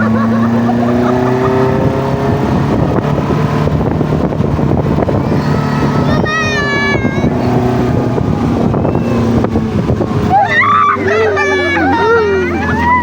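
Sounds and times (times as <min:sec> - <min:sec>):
rough rumbling ride noise: 0:00.0 - 0:13.0
vehicle engine running: 0:00.0 - 0:13.0.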